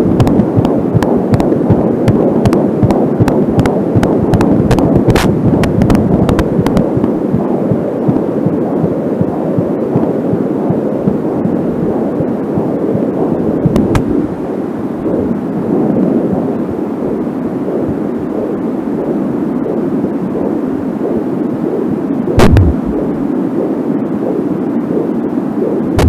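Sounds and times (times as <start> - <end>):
static crackle: 0.0 - 26.0
whooshing fetal heartbeat: 0.0 - 26.0.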